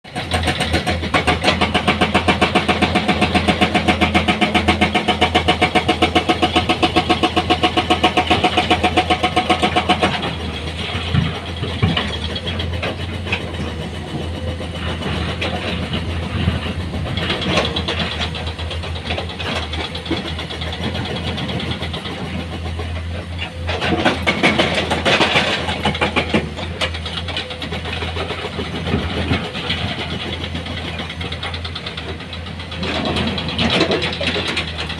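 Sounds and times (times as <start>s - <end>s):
heavy diesel engine running: 0.1s - 34.9s.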